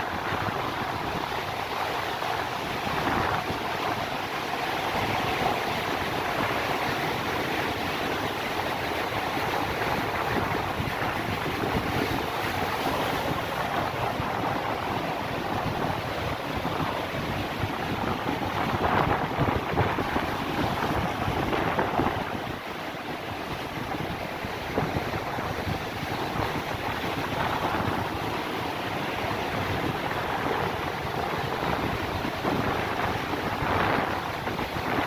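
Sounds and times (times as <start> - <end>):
sea waves breaking on shore: 0.0 - 35.0
wind buffeting microphone: 0.0 - 35.0.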